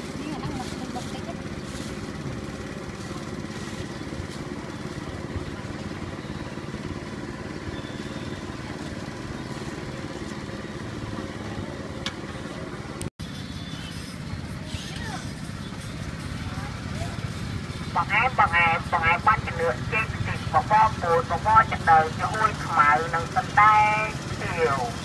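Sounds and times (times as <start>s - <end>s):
voices talking: 0.0s - 13.0s, 13.6s - 25.0s
motorbike traffic hum: 0.0s - 25.0s.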